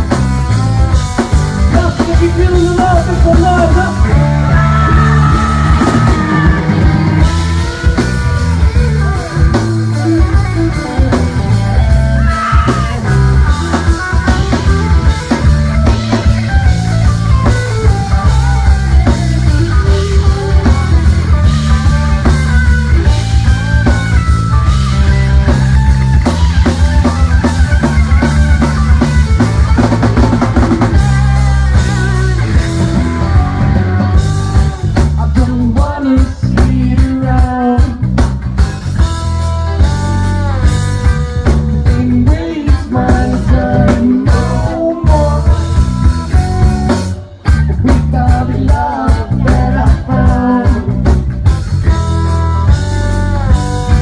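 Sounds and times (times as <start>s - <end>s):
drum kit: 0.0s - 54.0s
electric guitar: 0.0s - 54.0s
heavy bass line: 0.0s - 54.0s.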